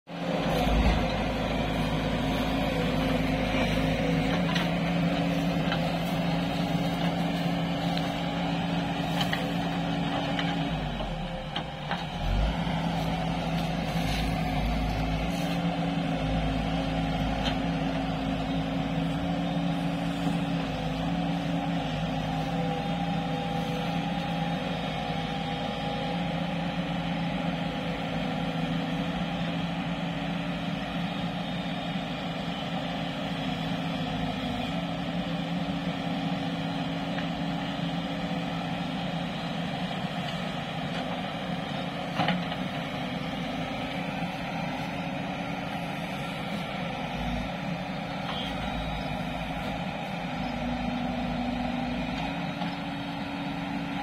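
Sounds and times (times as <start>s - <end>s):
excavator engines under load: 0.1s - 54.0s.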